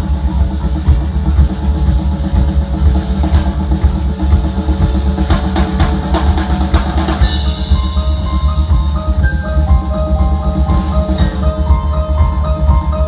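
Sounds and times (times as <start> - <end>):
drum fill: 0.0 - 13.0
rock band playing: 0.0 - 13.0.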